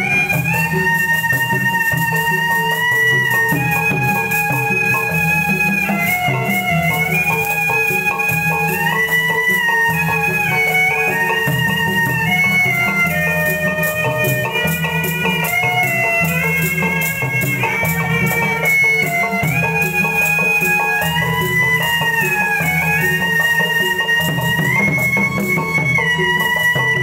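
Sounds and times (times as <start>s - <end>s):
steady drum beat: 0.0s - 27.0s.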